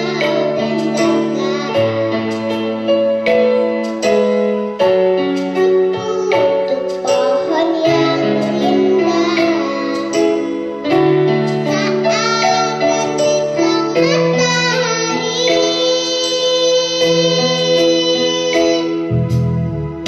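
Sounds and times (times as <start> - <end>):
child singing: 0.0 - 2.8, 5.6 - 19.1
instrumental backing track: 0.0 - 20.0.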